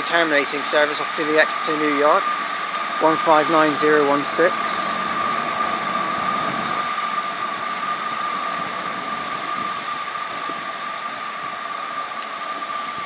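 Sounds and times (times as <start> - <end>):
diesel train pulling away: 0.0 - 13.0
high-pitched whine: 0.0 - 13.0.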